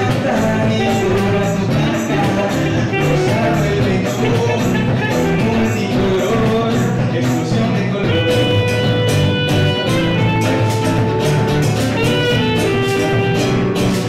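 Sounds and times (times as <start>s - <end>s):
saxophone long notes: 0.0s - 6.5s, 8.1s - 14.0s
hand percussion hits: 0.0s - 14.0s
strummed nylon-string guitar: 0.0s - 14.0s.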